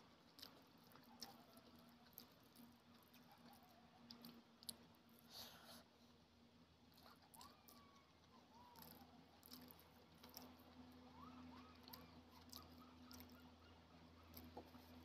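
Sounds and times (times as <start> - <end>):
fingers mixing food wet squishes: 0.0 - 5.2, 6.9 - 15.0.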